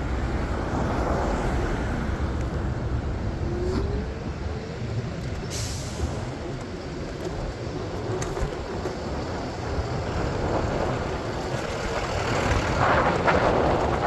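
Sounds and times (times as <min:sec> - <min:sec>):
rumble of passing vehicles: 0:00.0 - 0:14.0.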